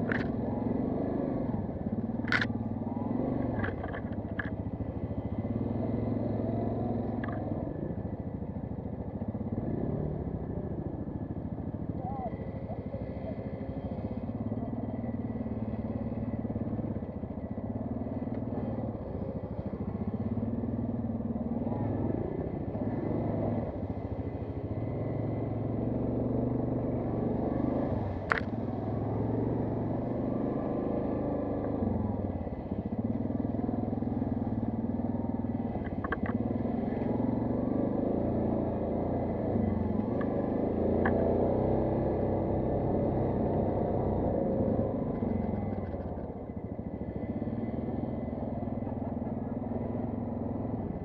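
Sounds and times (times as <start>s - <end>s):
quad bike engine: 0.0s - 51.0s.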